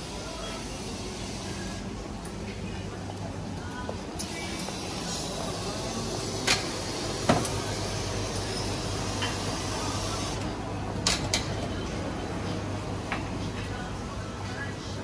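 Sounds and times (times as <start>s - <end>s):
busy room background noise: 0.0s - 15.0s.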